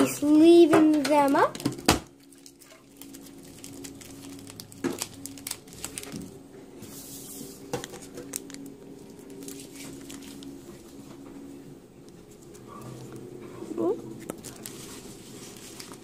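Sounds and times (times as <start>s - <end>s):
plastic crinkle: 0.0s - 16.0s
steady low hum: 3.0s - 16.0s.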